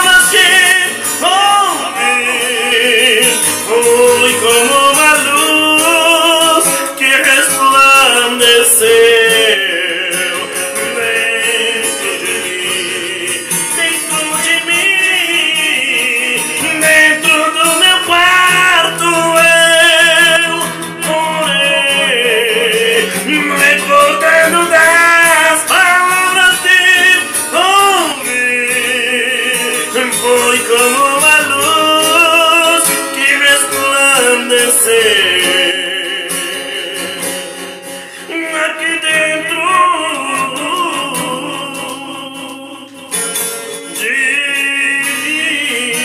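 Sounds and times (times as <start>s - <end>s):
classical guitar playing: 0.0s - 46.0s
man singing a hymn: 0.0s - 46.0s.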